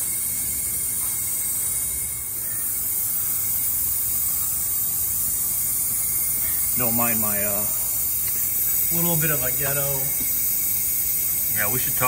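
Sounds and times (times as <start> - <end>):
compressed air hissing: 0.0 - 12.0.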